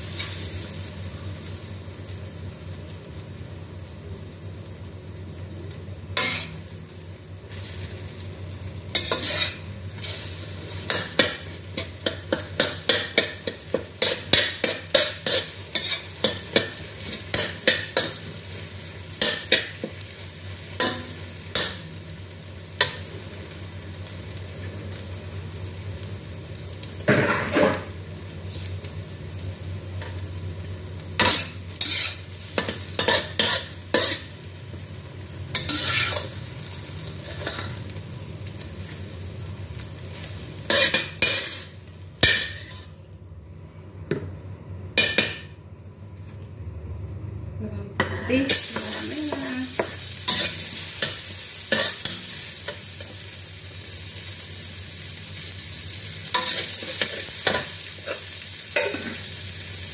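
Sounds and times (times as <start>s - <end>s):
eggs sizzling: 0.0s - 45.6s, 48.0s - 59.9s.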